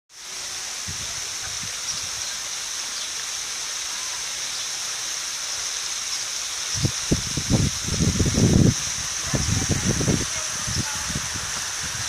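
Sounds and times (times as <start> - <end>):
high-pitched outdoor hiss: 0.1 - 12.0.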